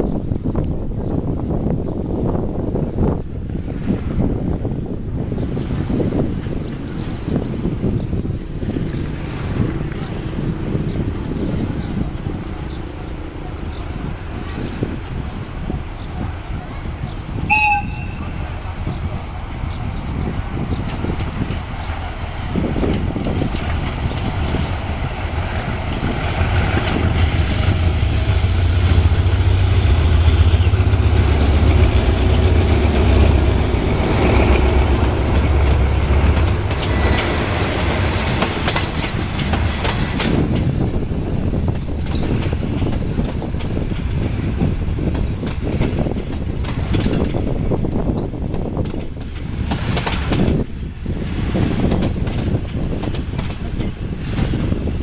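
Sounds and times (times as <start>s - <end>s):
train engine rumble: 0.0s - 55.0s
wheels clicking over rail joints: 8.6s - 55.0s.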